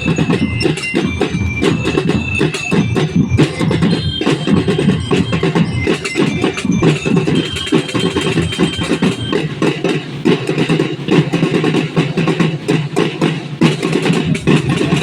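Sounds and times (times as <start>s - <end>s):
music with fast dense drumming: 0.0s - 15.0s.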